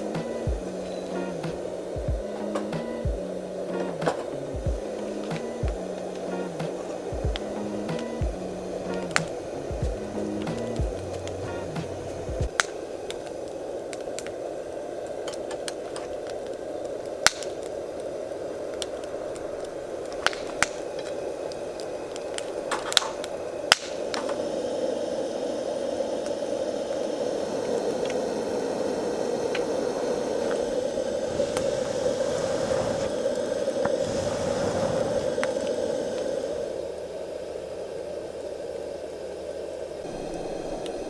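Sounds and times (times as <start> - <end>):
burning wood crackling and popping: 0.0 - 41.0
campfire burning: 0.0 - 41.0.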